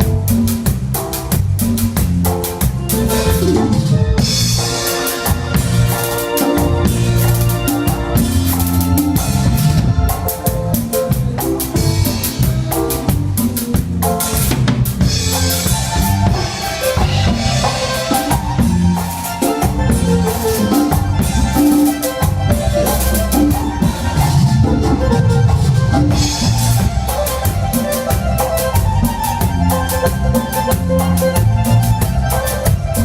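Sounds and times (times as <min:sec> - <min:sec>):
bass guitar: 0:00.0 - 0:33.0
drum kit beat: 0:00.0 - 0:33.0.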